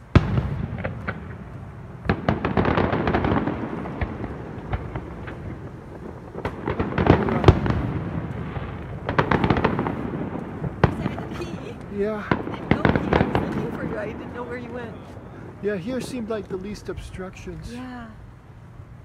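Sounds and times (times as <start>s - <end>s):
fireworks bangs and crackles: 0.0s - 17.8s.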